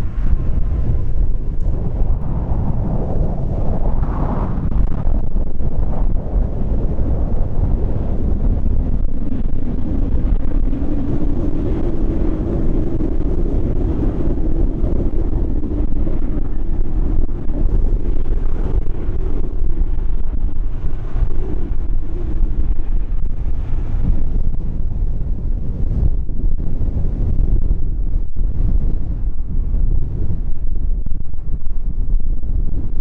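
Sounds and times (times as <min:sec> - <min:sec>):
jet engine of landing aircraft: 0:00.0 - 0:33.0
wind buffeting microphone: 0:00.0 - 0:33.0.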